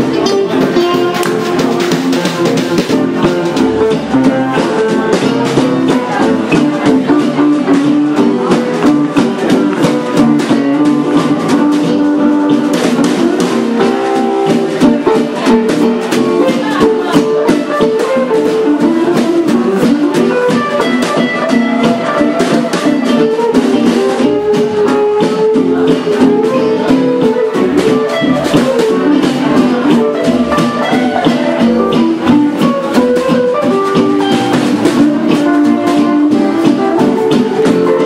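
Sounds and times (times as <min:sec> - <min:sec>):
gypsy jazz on guitars: 0:00.0 - 0:38.0.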